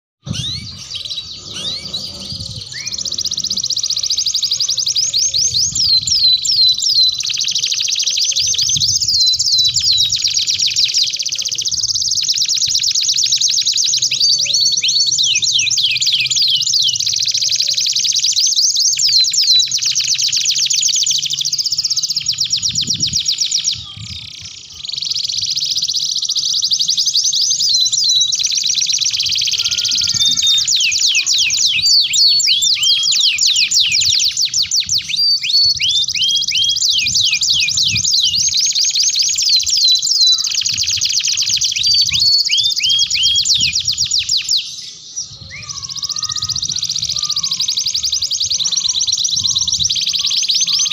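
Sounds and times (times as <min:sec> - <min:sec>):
canaries singing trills: 0:00.2 - 0:50.9.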